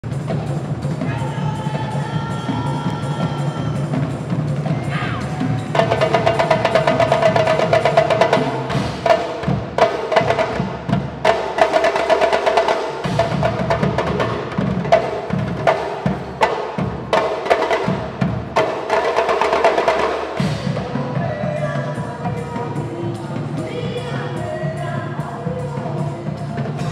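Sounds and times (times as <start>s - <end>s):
percussion ensemble drumming: 0.0s - 26.9s.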